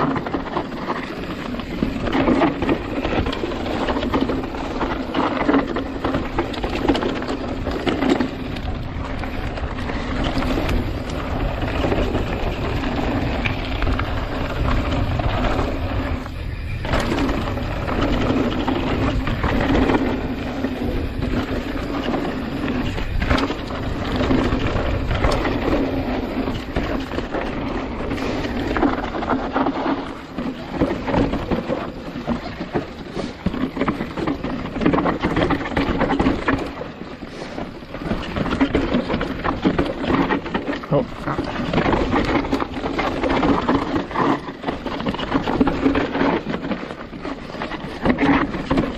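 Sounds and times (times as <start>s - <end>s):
bike rattling over bumps: 0.0s - 48.9s
tyres rolling over dirt and rocks: 0.0s - 48.9s
wind noise on microphone: 0.0s - 48.9s.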